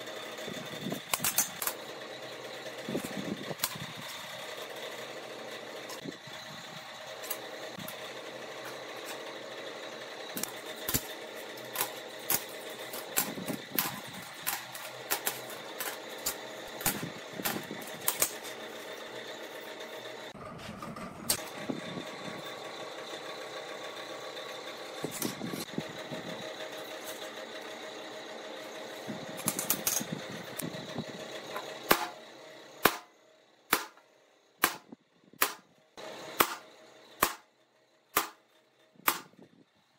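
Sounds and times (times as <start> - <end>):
workshop machinery hum: 0.0 - 39.9.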